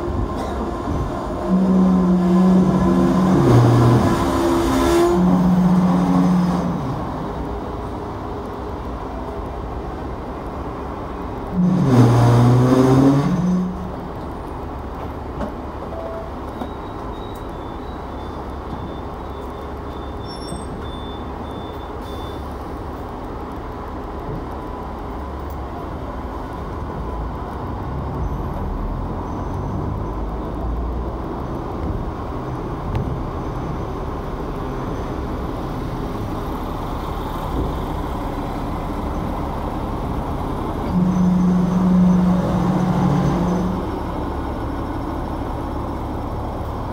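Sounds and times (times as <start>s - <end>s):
traffic: 0.0s - 46.9s
tram wheels and motor rumbling: 0.0s - 46.9s.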